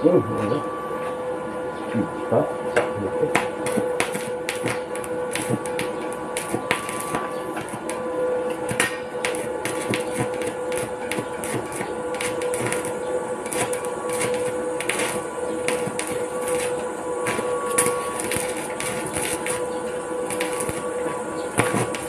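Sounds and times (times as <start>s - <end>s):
steady hum: 0.0s - 22.0s
welding arc crackling: 2.7s - 22.0s.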